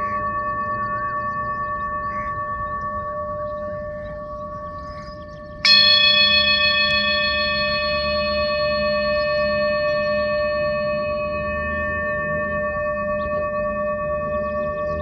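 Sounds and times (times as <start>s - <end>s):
singing bowl ringing: 0.0s - 15.0s
singing bowl struck: 0.0s - 15.0s.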